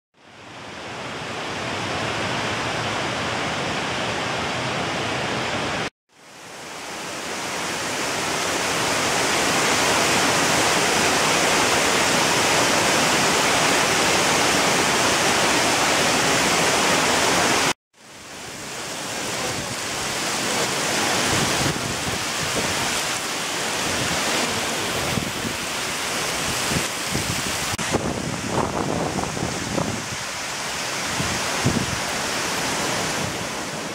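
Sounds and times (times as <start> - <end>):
waterfall roaring: 0.3 - 33.9.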